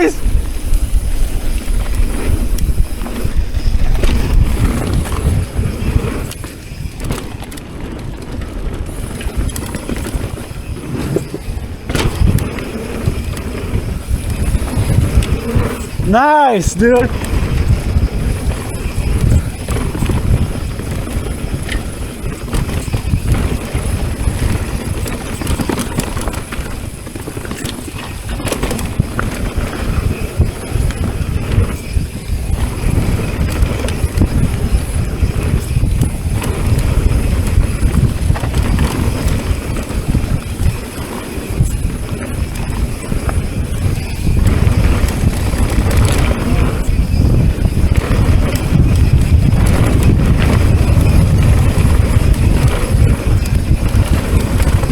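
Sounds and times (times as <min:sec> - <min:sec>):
bike rattling and knocking: 0:00.0 - 0:54.9
tyres rolling over dirt: 0:00.1 - 0:54.9.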